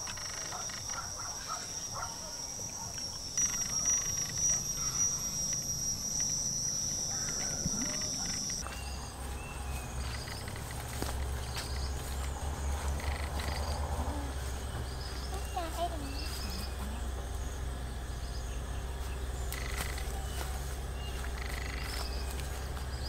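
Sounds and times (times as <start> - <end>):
forest insects chirring: 0.0 - 23.0.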